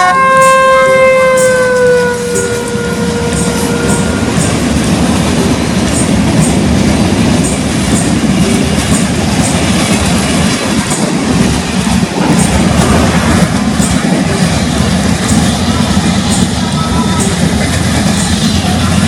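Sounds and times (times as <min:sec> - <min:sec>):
train rumbling past: 0:00.0 - 0:19.0
wheels clacking over rail joints: 0:01.4 - 0:19.0.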